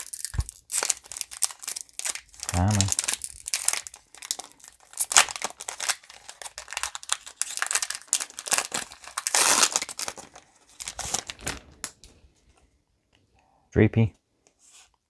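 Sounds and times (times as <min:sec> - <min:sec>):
foil wrapper crinkling and tearing: 0:00.0 - 0:12.1.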